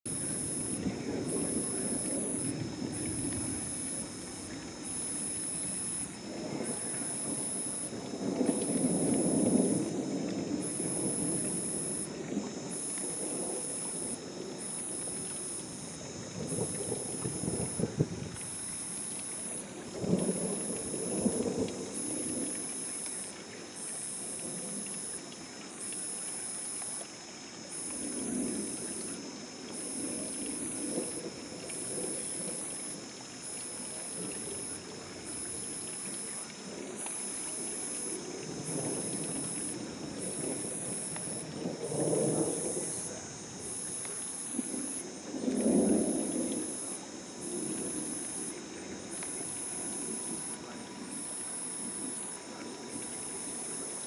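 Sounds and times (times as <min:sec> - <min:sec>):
thunder rumbling: 0:00.1 - 0:23.1, 0:27.7 - 0:33.0, 0:33.8 - 0:54.0
night insects chorus: 0:00.1 - 0:54.0.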